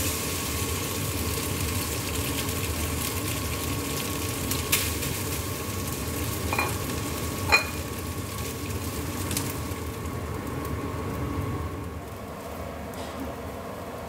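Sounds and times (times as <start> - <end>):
rice sizzling in a wok: 0.0 - 14.0.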